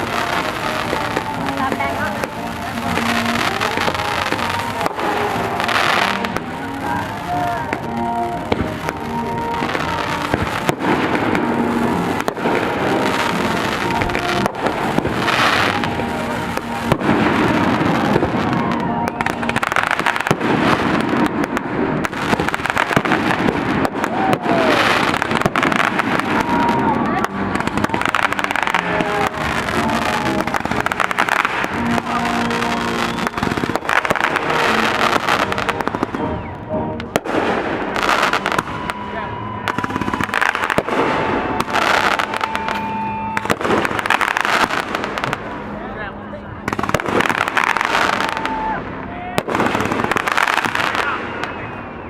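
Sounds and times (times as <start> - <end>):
fireworks hissing crackle: 0.0 - 36.2, 37.0 - 45.8, 46.7 - 48.8, 49.4 - 51.7
fireworks bursting with sharp bangs: 0.0 - 45.8, 46.6 - 52.0
continuous rumble: 0.0 - 52.0
music: 0.0 - 52.0.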